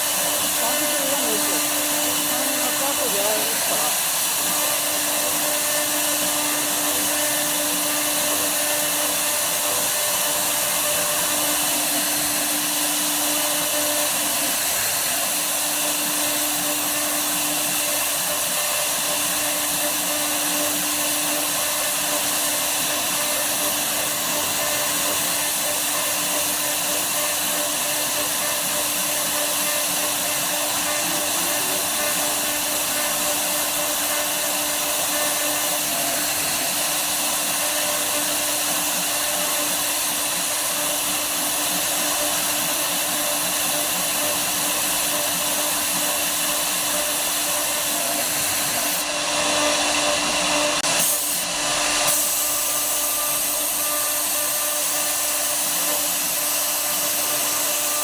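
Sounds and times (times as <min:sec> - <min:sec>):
router spindle cutting wood: 0:00.0 - 0:58.0.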